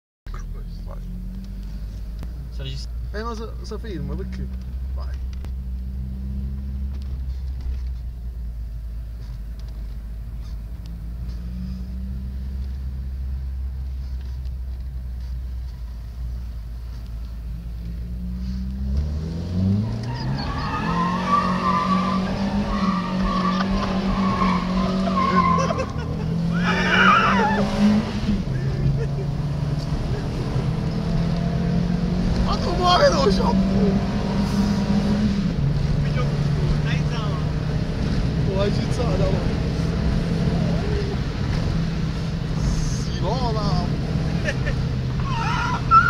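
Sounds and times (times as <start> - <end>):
car engine revving: 0.3 - 46.0
road noise: 0.3 - 46.0.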